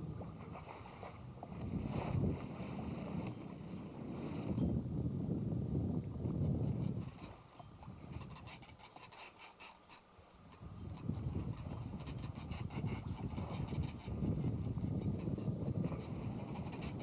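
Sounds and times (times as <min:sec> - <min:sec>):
wind rumbling on microphone: 0:00.0 - 0:09.3, 0:10.4 - 0:17.0.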